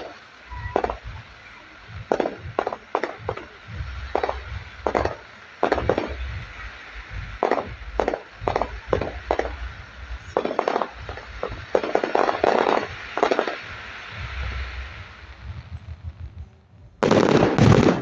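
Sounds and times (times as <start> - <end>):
fireworks bangs and crackles: 0.0 - 18.0
low rumble: 0.0 - 18.0.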